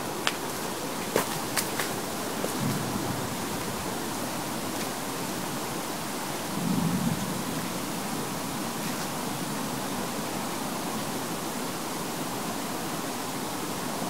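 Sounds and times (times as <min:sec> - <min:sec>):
steady hiss of ambient noise: 0:00.0 - 0:14.0.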